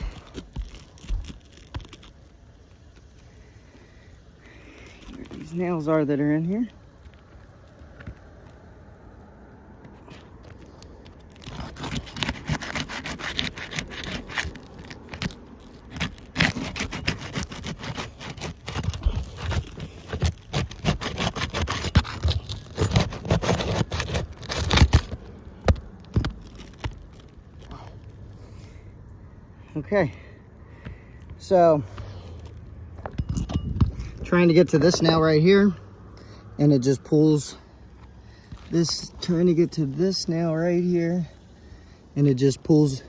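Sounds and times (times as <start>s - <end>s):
pry tool scraping under shingles: 0.0s - 8.6s, 9.8s - 28.8s, 30.1s - 35.8s, 37.1s - 41.2s.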